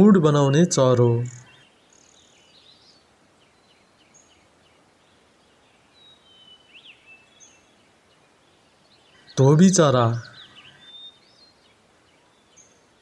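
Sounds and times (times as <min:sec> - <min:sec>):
small birds chirping: 0:00.0 - 0:13.0
soft hiss: 0:00.0 - 0:13.0.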